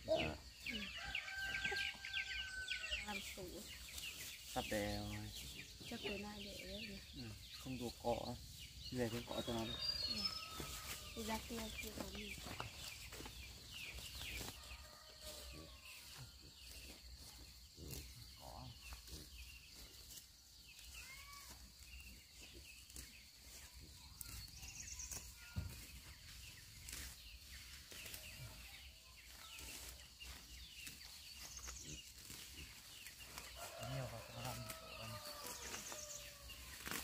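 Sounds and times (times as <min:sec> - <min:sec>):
chickens chirping and clucking: 0:00.0 - 0:20.9, 0:21.7 - 0:37.0.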